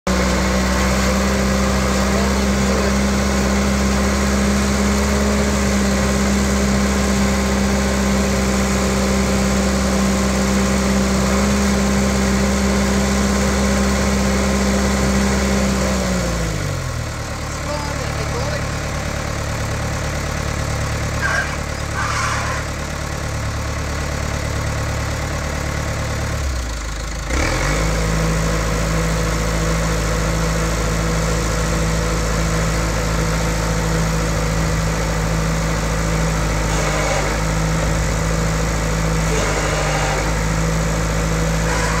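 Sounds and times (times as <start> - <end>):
diesel engine idling and revving: 0.0 - 42.0.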